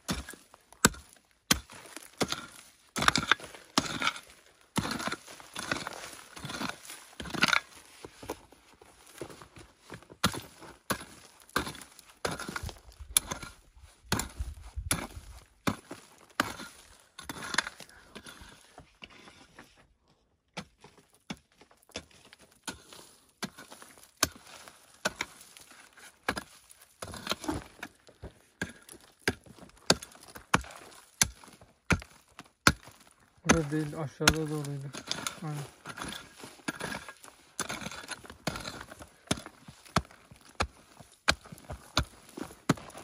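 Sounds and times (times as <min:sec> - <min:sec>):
pick striking stony soil: 0:00.0 - 0:19.6, 0:20.5 - 0:43.0
stones and earth rattling: 0:00.0 - 0:43.0.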